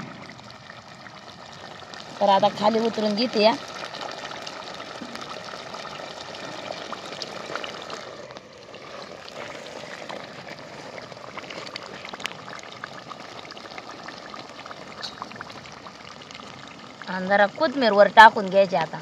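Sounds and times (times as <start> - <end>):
curry sizzling and bubbling in pot: 0.0 - 19.0.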